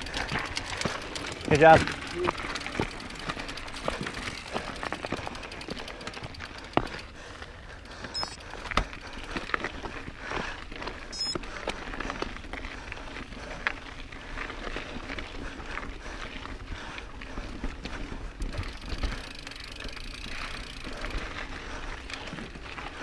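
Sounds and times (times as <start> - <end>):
mountain bike rattling over rocks: 0.0 - 23.0.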